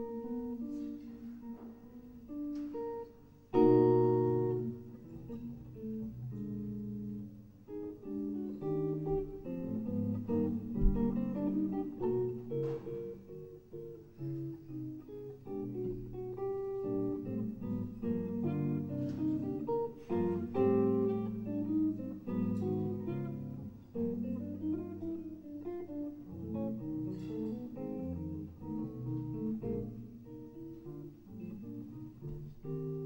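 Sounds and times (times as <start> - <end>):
electric guitar playing jazz: 0.0 - 33.0.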